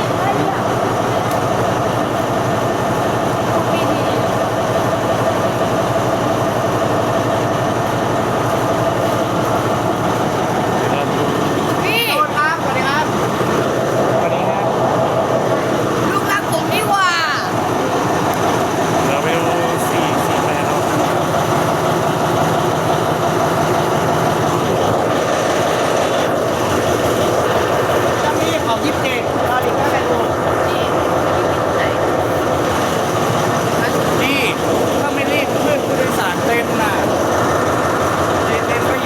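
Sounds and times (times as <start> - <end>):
diesel locomotive rumbling: 0.0 - 39.0.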